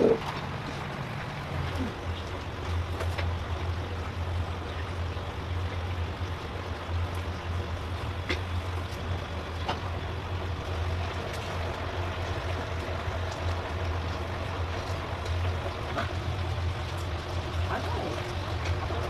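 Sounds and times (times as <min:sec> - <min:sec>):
room hum and hiss: 0:00.0 - 0:19.0.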